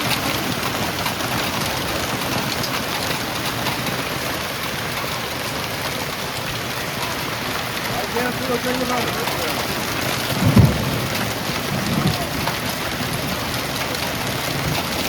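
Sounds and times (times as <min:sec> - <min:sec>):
heavy rain pouring: 0:00.0 - 0:15.0
raindrops ticking on hard surfaces: 0:00.0 - 0:15.0.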